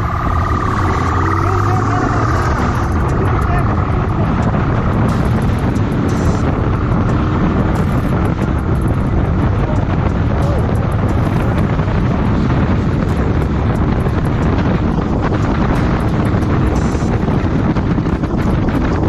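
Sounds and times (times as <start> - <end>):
motorcycle engine: 0.0 - 19.0
road noise: 0.0 - 19.0
wind rushing on microphone: 0.0 - 19.0.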